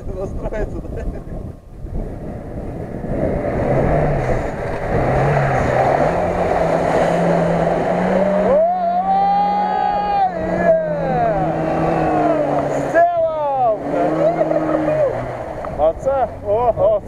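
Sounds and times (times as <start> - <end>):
off-road vehicle engine revving: 1.9 - 17.0
rushing water noise: 3.0 - 16.8.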